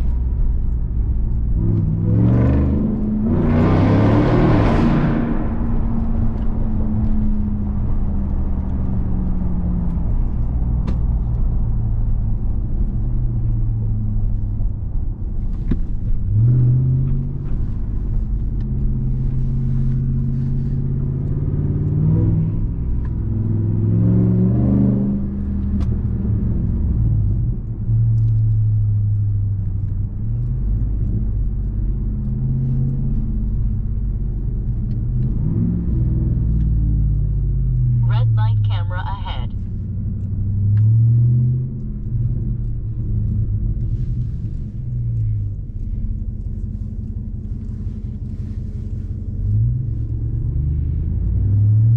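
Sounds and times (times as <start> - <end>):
truck engine accelerating: 0.0 - 10.8, 16.1 - 51.9.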